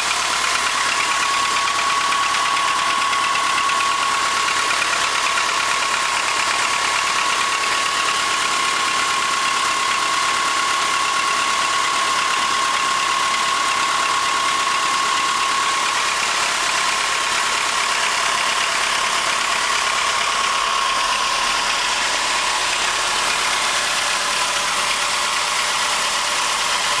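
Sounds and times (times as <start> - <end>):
car engine idling with knock: 0.0 - 27.0.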